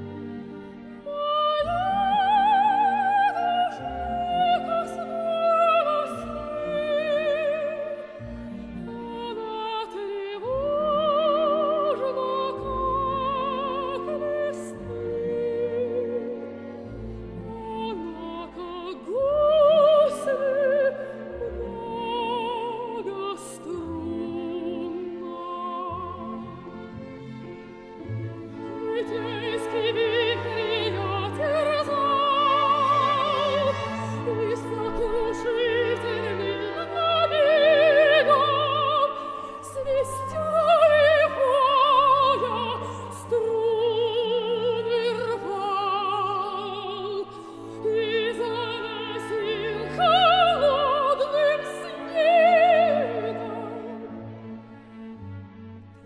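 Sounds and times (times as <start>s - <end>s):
sustained string accompaniment: 0.0s - 56.0s
soprano singing operatically: 1.0s - 26.9s, 28.5s - 54.4s.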